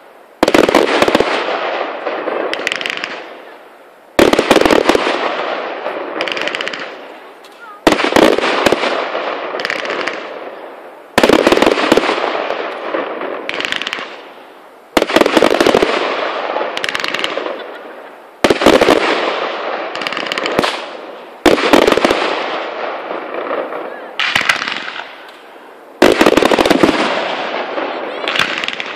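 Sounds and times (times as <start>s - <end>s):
rumble after firework bangs: 0.0s - 14.3s, 14.9s - 28.9s
fine firework crackling: 0.0s - 28.9s
firework shells bursting: 0.0s - 28.9s.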